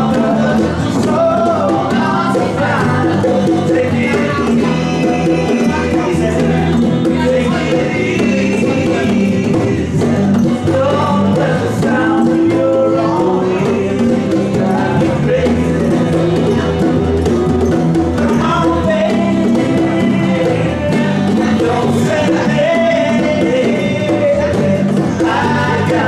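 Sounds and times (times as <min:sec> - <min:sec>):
bass notes: 0:00.0 - 0:26.0
small band playing live: 0:00.0 - 0:26.0.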